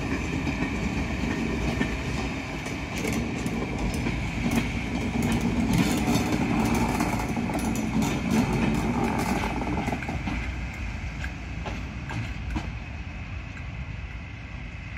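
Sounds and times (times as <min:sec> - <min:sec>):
train running along track: 0:00.0 - 0:14.9
wheel clicks over rail joints: 0:00.4 - 0:12.8.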